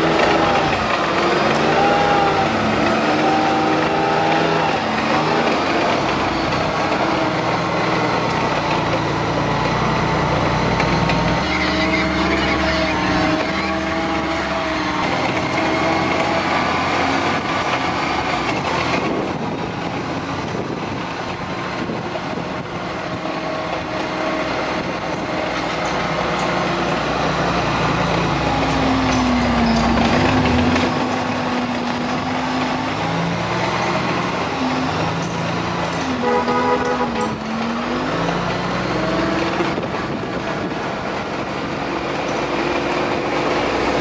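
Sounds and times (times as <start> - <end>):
vehicle engines: 0.0 - 44.0.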